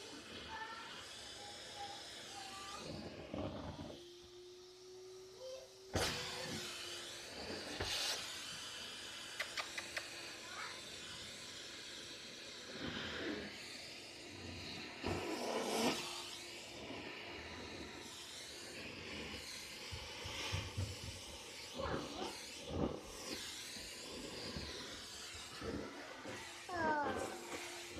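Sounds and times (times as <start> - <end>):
vacuum cleaner hissing: 0.0 - 27.9.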